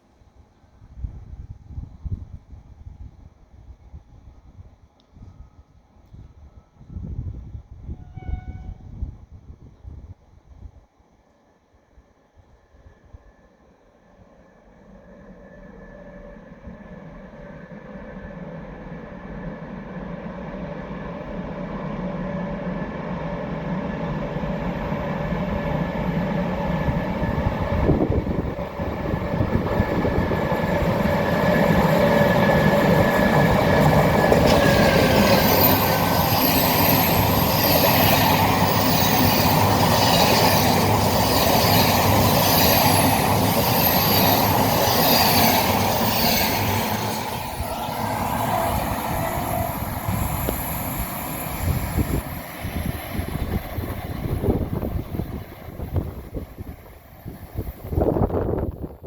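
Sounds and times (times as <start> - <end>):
train passing with hum: 0.0 - 59.0.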